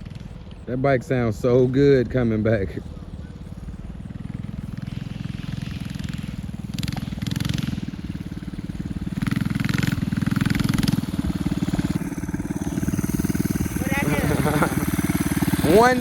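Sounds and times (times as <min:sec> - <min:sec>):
mini bike engine revving: 0:00.0 - 0:16.0.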